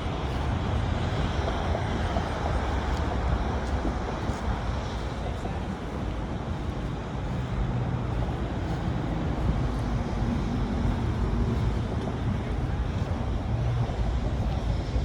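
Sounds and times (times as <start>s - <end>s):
engine hum: 0.0s - 15.0s
passing vehicles rumbling: 0.0s - 15.0s.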